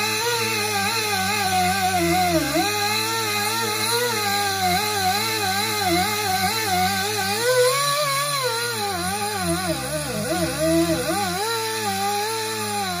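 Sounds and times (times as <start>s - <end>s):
air grinder whining: 0.0s - 13.0s.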